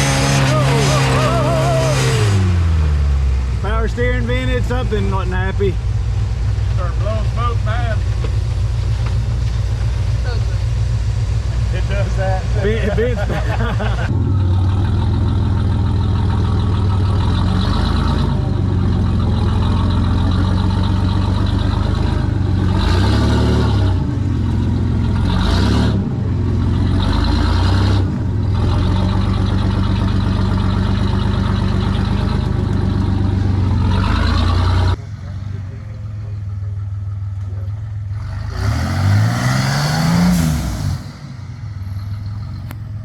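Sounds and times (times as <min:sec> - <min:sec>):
off-road vehicle engine revving: 0:00.0 - 0:43.0.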